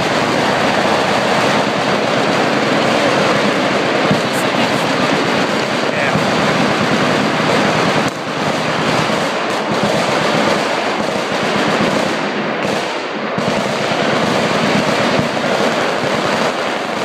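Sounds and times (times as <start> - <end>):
machine gun fire: 0.0 - 17.0.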